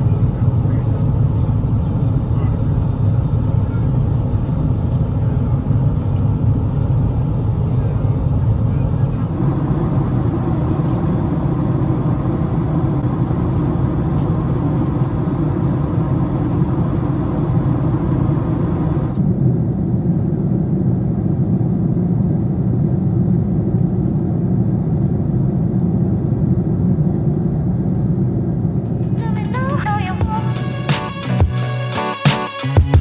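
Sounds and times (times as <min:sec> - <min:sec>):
airliner cabin roar: 0:00.0 - 0:33.0.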